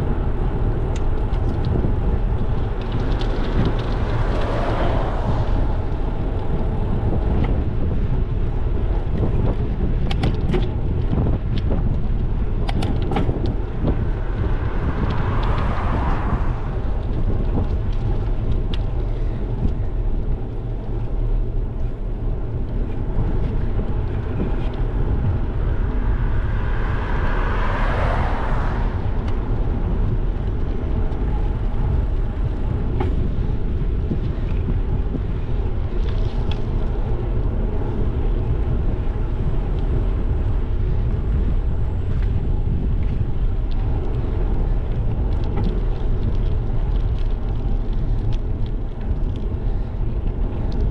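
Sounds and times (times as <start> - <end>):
cars passing: 0.0 - 50.9
wind rumble on microphone: 0.0 - 50.9.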